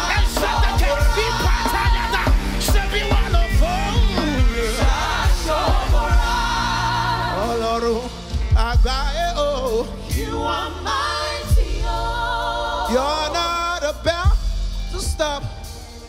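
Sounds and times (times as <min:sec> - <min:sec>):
gospel singing with instruments: 0:00.0 - 0:16.0.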